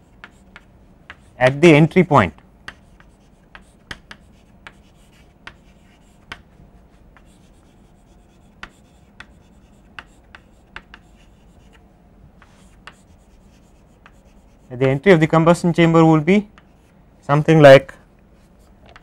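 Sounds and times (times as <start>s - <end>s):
chalk tapping and scratching: 0.0s - 11.8s, 12.4s - 15.3s, 16.4s - 17.0s.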